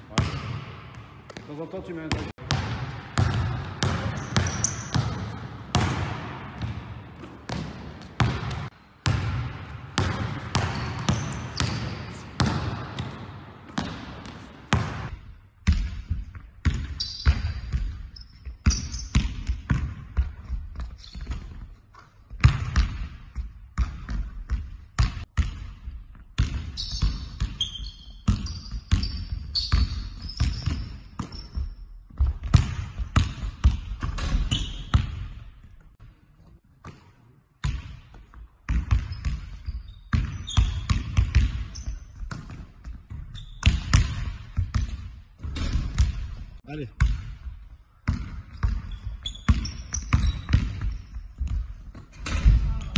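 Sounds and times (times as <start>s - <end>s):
sneakers squeaking on court: 0.0s - 23.0s, 26.4s - 35.8s, 36.8s - 46.4s, 47.0s - 52.9s
basketballs bouncing on hardwood: 0.1s - 18.0s, 18.6s - 21.7s, 22.3s - 35.9s, 36.8s - 52.9s.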